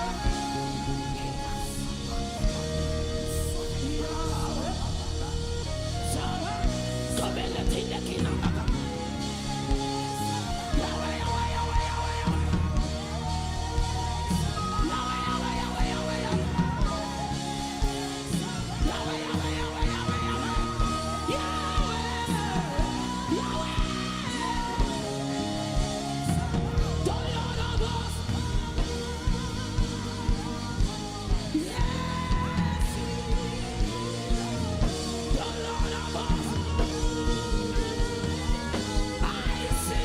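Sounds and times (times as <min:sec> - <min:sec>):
steady drum beat: 0:00.0 - 0:40.0
wavering singing voices: 0:00.0 - 0:40.0.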